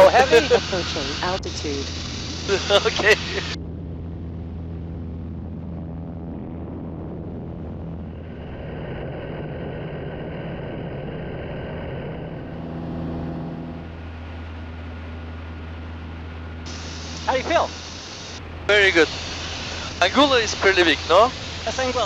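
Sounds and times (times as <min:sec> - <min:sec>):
aircraft propeller engine droning: 0:00.0 - 0:22.0
higher whine: 0:00.0 - 0:22.0.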